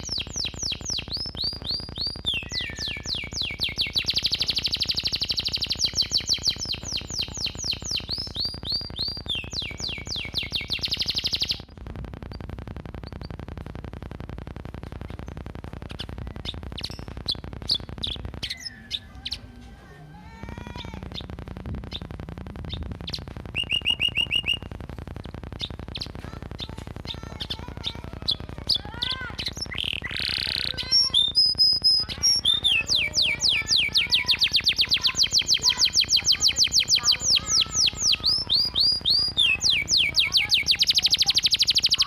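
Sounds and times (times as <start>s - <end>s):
canary singing: 0.0s - 13.5s, 15.0s - 42.0s.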